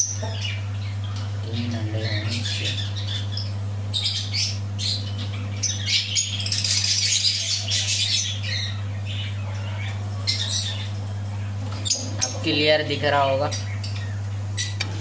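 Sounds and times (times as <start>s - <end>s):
parrots squawking and chattering: 0.0s - 15.0s
steady low hum: 0.0s - 15.0s.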